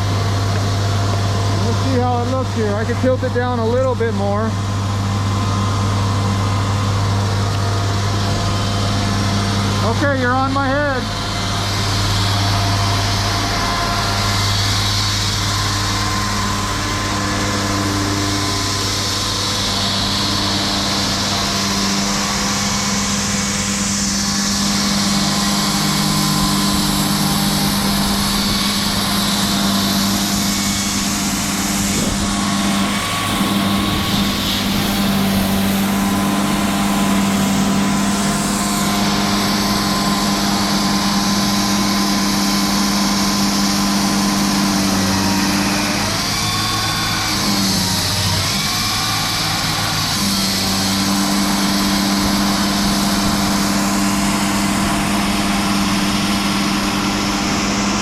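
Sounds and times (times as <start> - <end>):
concrete saw engine running: 0.0 - 58.0
saw blade hissing through concrete: 8.2 - 58.0.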